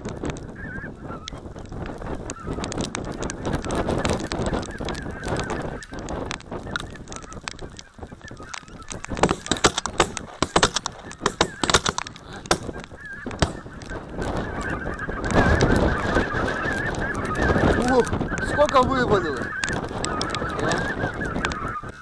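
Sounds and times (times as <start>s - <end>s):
geese honking: 0.4s - 22.0s.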